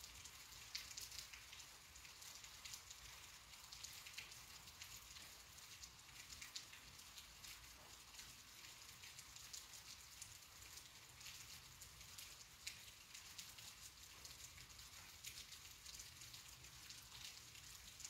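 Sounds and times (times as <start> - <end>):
raindrop ticks: 0.0 - 18.0
soft rain hiss: 0.0 - 18.0.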